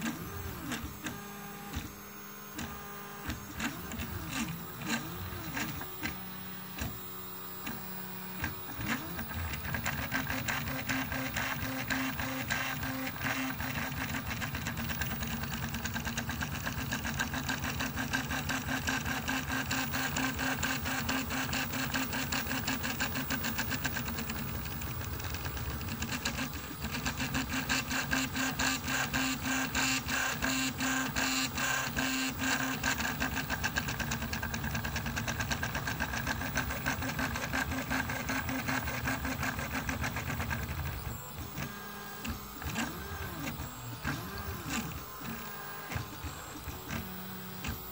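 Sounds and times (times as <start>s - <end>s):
three d printer motors whirring: 0.0s - 47.9s.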